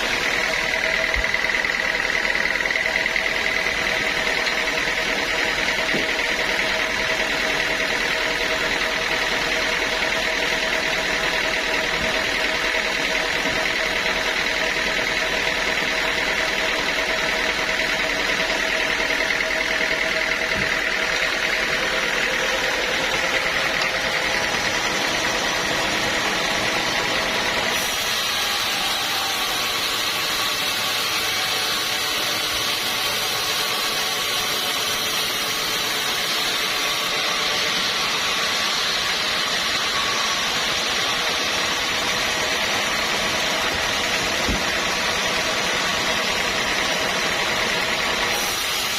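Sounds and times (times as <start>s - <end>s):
sawmill sawing log: 0.0s - 48.9s.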